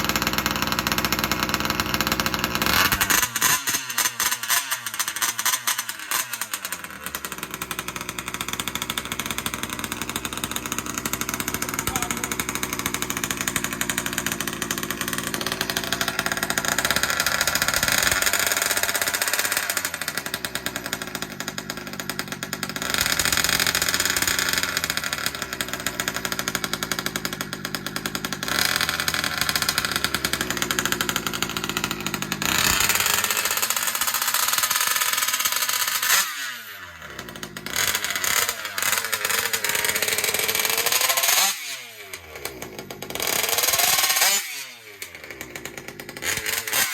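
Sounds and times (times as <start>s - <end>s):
two-stroke engine at high revs: 0.0s - 46.9s.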